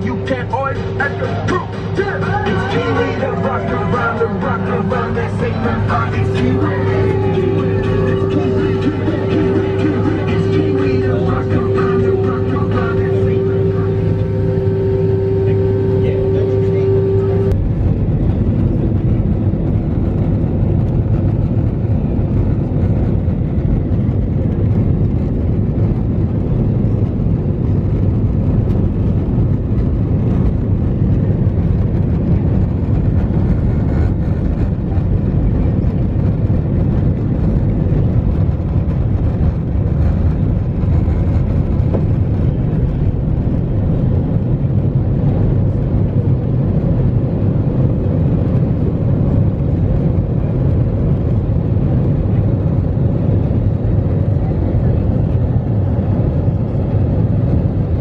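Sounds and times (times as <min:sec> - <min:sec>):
jet engines at takeoff thrust: 0:00.0 - 0:58.0.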